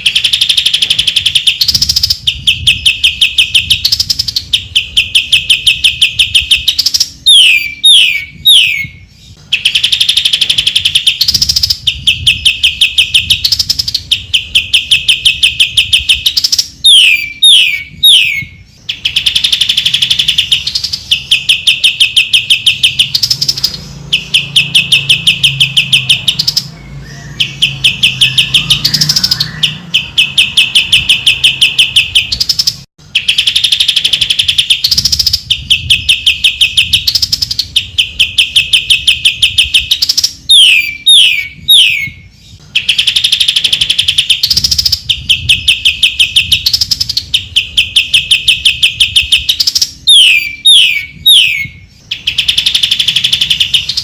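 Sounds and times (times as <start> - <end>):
bird singing sharp high notes: 0.0 - 54.0.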